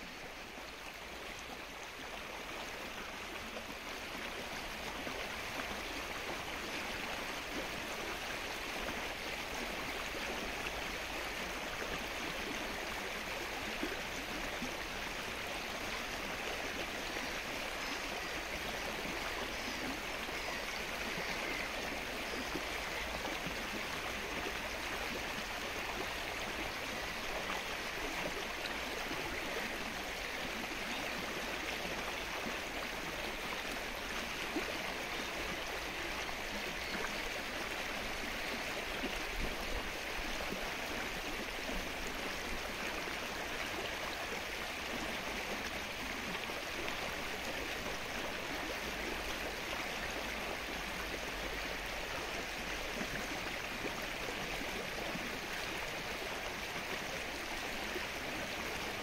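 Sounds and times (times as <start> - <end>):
rain falling on water: 0.0 - 59.0.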